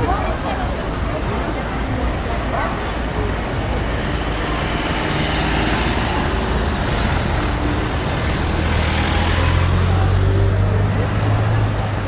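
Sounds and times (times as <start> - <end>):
vehicles passing slowly: 0.0 - 12.0.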